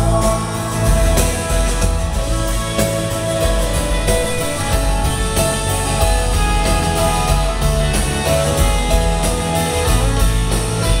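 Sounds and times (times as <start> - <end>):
bass guitar: 0.0 - 11.0
rock band playing: 0.0 - 11.0
strummed acoustic guitar: 0.0 - 11.0.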